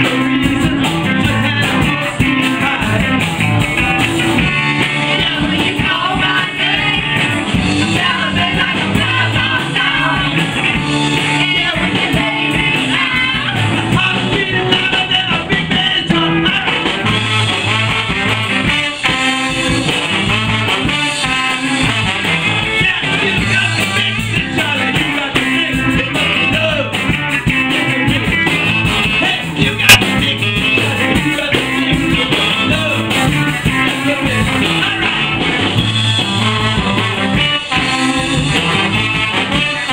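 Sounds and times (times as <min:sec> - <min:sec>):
man singing: 0:00.0 - 0:39.9
rock band with horns playing: 0:00.0 - 0:39.9.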